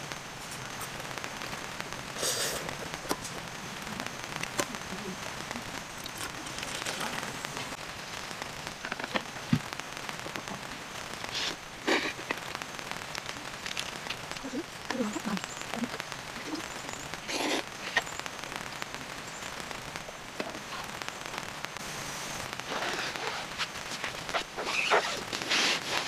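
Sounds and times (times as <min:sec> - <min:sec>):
steady crackling hiss: 0:00.0 - 0:26.0.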